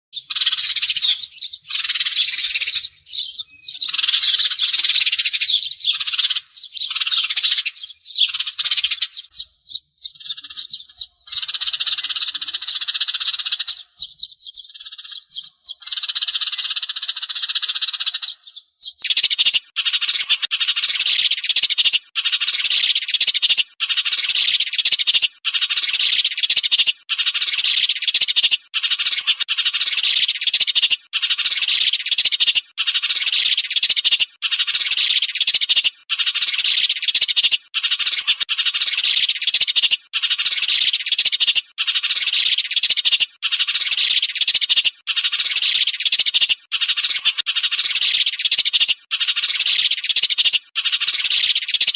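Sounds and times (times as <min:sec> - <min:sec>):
sparrows chirping: 0:00.1 - 0:51.9.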